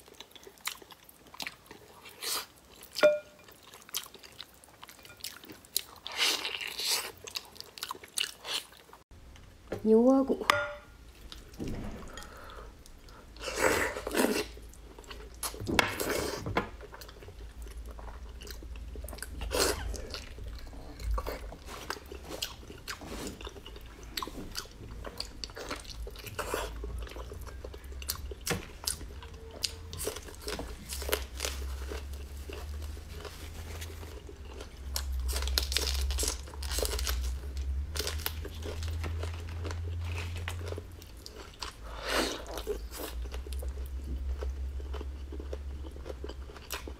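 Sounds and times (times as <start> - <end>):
chewing and crunching: 0.0 - 9.0, 12.2 - 46.9.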